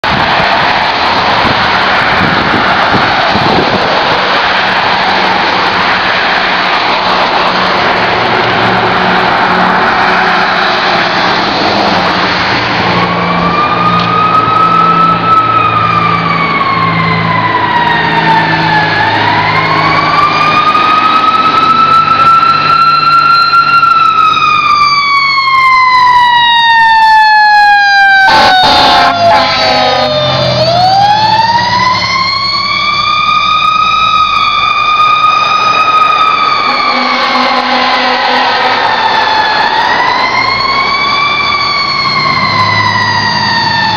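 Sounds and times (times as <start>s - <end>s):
fire engine siren wailing: 0.0s - 43.9s
truck engine: 0.0s - 43.9s.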